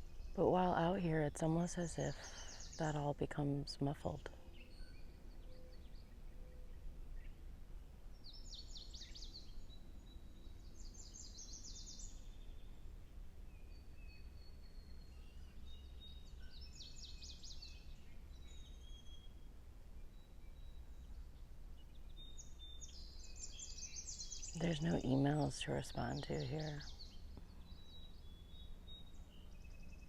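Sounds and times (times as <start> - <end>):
songbirds trilling: 0.0 - 30.0.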